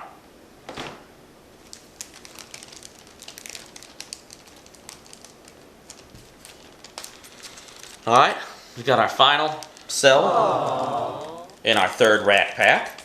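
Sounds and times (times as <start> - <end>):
plastic wrapping crinkling: 0.6 - 13.0.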